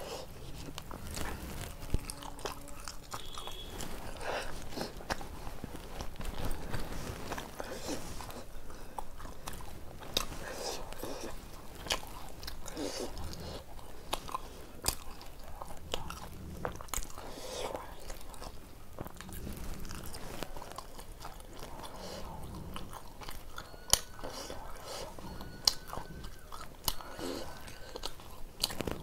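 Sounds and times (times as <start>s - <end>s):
chewing and biting bread: 0.0s - 29.0s
wet mouth noises: 0.0s - 29.0s.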